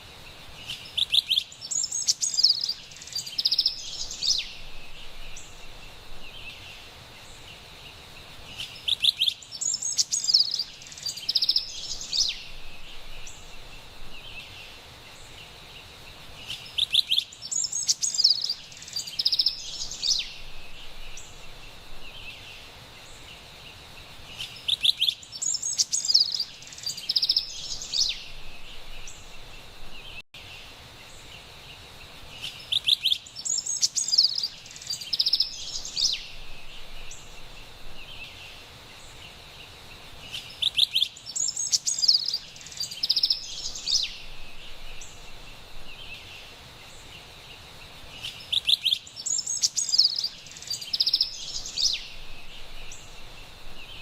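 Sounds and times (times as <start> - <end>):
faint background hiss: 0.0 - 54.0
wren singing high chirps: 0.6 - 23.4, 24.2 - 30.5, 31.1 - 54.0.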